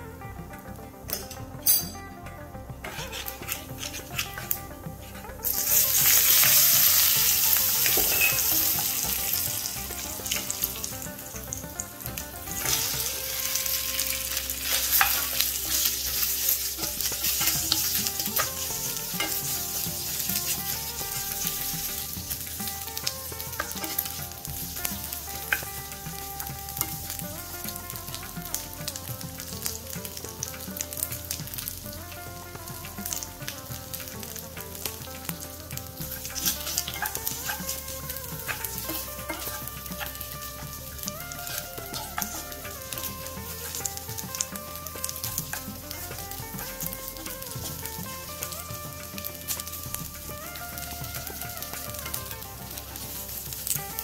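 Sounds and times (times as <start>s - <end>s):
leaves sizzling in hot oil: 2.8s - 54.0s
slices frying in a pan: 2.8s - 54.0s
wooden spatula stirring: 2.8s - 54.0s.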